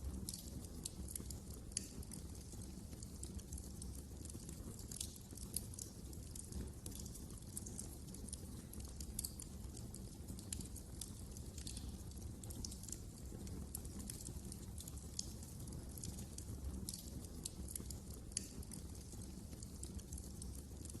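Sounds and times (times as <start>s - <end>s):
low rumble of flames: 0.0s - 21.0s
wood fire snaps and pops: 0.0s - 21.0s.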